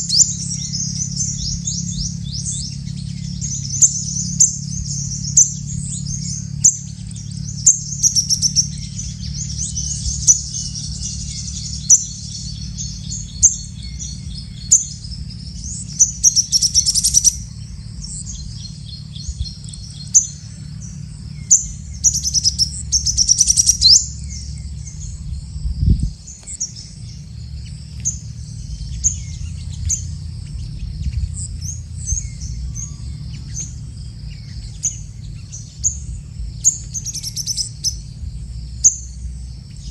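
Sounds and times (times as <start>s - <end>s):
birds chirping: 0.0s - 39.9s
low rumble: 0.0s - 39.9s
rapid high bird trilling: 0.0s - 39.9s.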